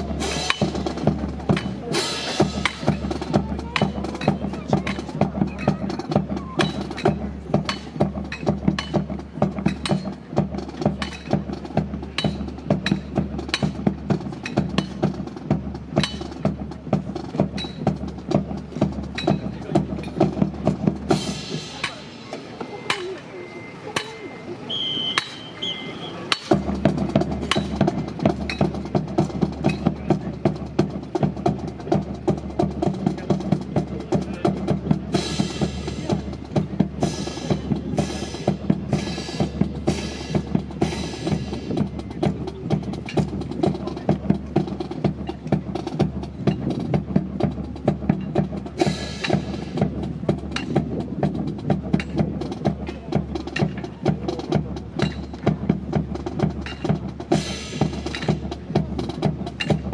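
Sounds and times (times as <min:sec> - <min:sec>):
marching snare and bass drums: 0:00.0 - 0:59.9.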